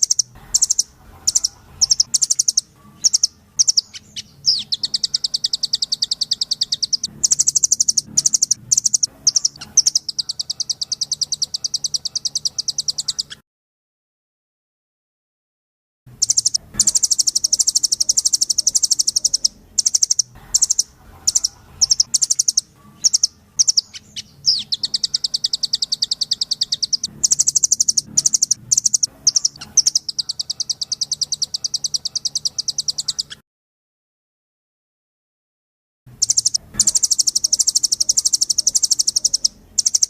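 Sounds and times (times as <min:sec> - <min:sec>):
nuthatch singing fast trills: 0:00.0 - 0:13.4, 0:16.2 - 0:33.4, 0:36.2 - 0:40.0.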